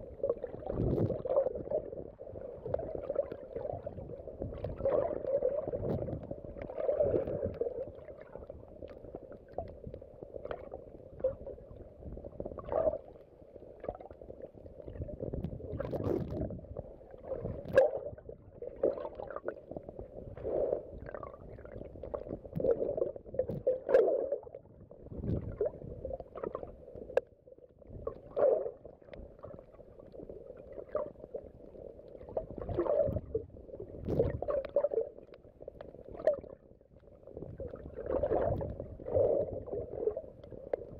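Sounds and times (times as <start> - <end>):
underwater gurgling and sloshing: 0.0 - 40.9.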